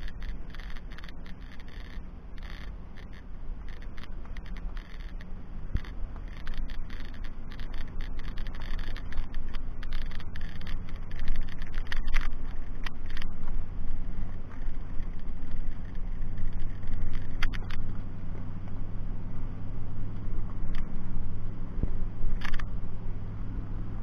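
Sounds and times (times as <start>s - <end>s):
gravel clicks and rattles: 0.0s - 23.0s
vehicle engine and tyre noise: 0.0s - 24.0s.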